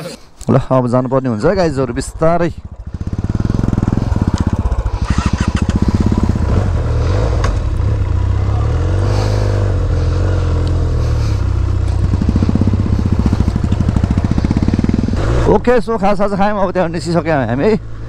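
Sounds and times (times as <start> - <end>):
motorcycle engine running: 1.7 - 16.5.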